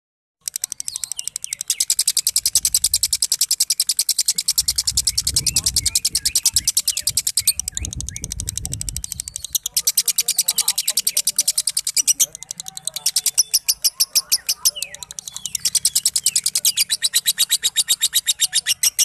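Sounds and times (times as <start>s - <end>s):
lovebird harsh chattering song: 0.4s - 19.0s.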